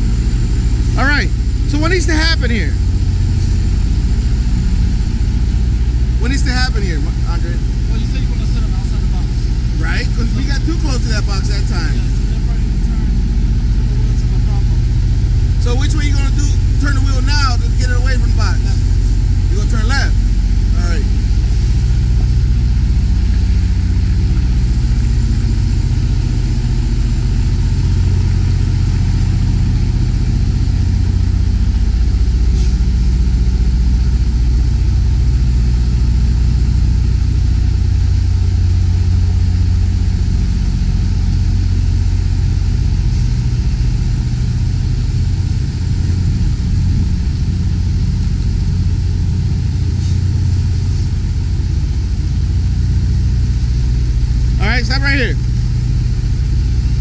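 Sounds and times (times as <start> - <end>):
truck diesel engine running low: 0.0 - 57.0.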